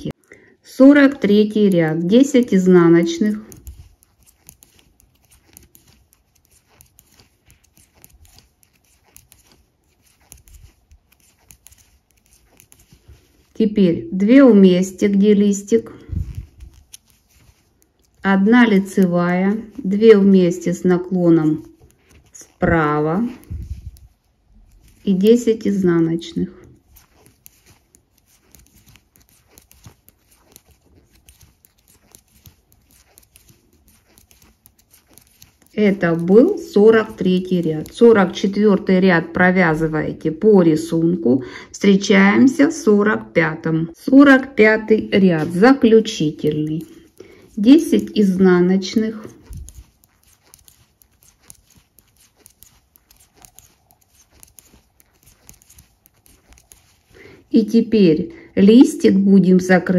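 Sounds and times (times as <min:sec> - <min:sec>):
knitting needles clicking: 0:01.0 - 0:39.9, 0:44.9 - 0:58.0.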